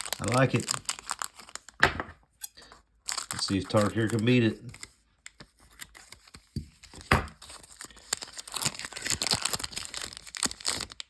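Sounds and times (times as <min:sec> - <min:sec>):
foil wrapper crinkling and tearing: 0:00.0 - 0:01.8, 0:02.6 - 0:11.0.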